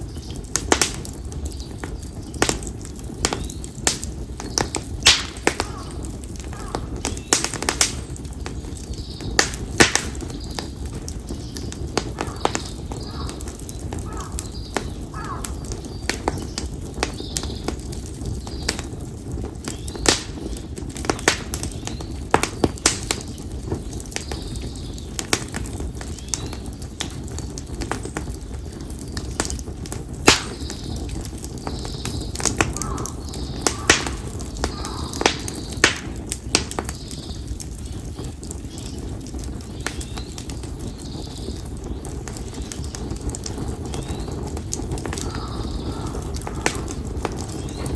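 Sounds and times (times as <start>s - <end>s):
bonfire crackling and popping: 0.0s - 47.9s.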